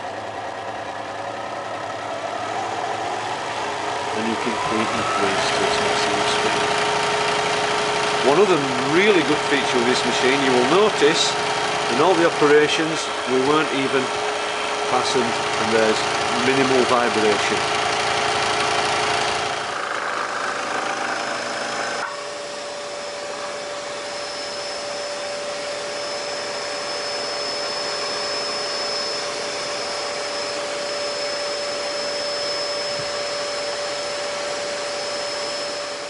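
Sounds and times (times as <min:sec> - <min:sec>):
scroll saw humming: 0:00.0 - 0:36.0.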